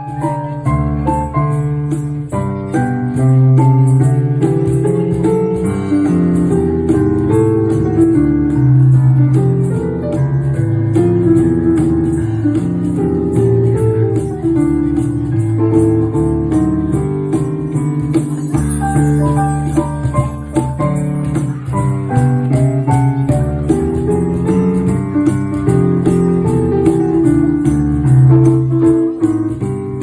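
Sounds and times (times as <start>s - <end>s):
electronic keyboard melody: 0.0s - 30.0s.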